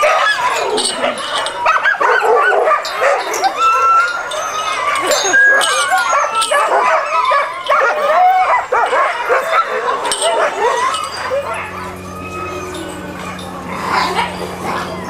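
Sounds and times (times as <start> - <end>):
dogs barking and yipping: 0.0 - 15.0.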